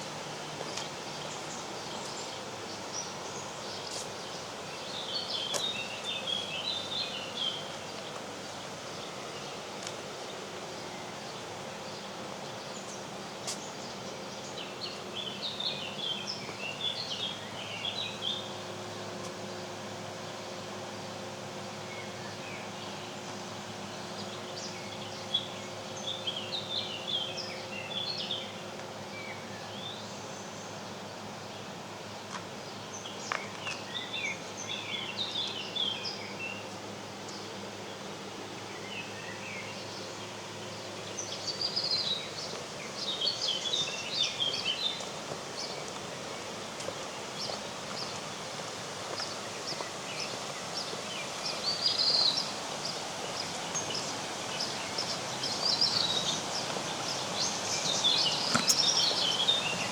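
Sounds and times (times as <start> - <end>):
songbird chirping: 0.0 - 20.5, 21.8 - 48.3, 49.1 - 59.9
steady background hiss: 0.0 - 59.9.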